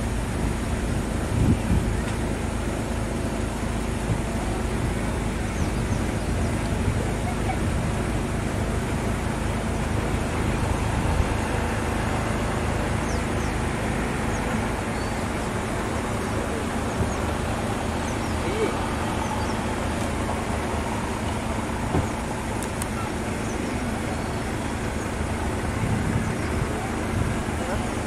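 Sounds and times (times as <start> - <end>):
low rumbling noise: 0.0 - 28.0.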